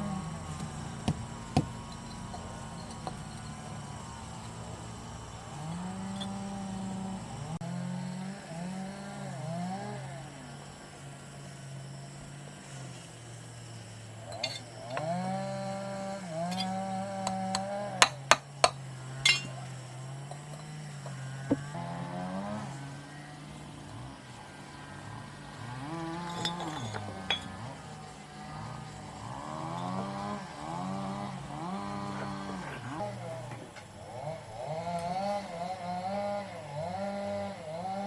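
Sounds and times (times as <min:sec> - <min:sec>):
small engine revving: 0:00.0 - 0:38.0.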